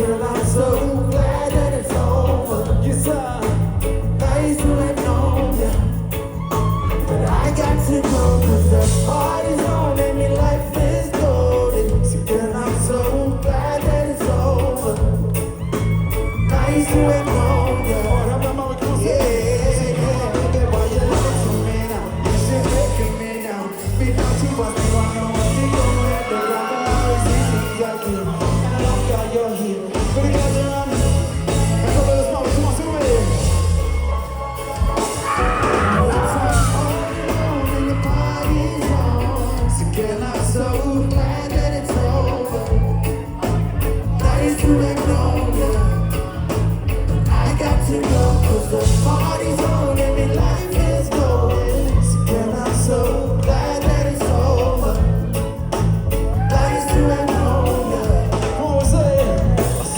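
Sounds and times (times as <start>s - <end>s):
person singing: 0.0s - 59.9s
reggae band playing: 0.0s - 59.9s.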